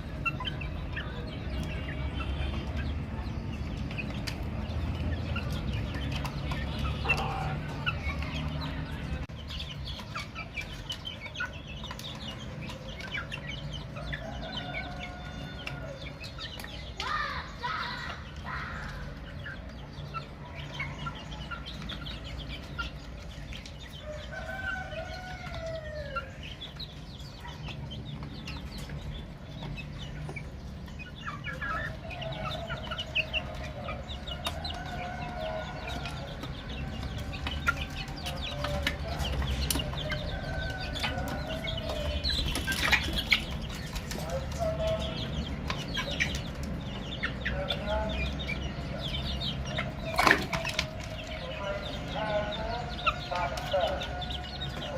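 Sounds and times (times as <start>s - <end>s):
baby chicks peeping: 0.0s - 54.9s.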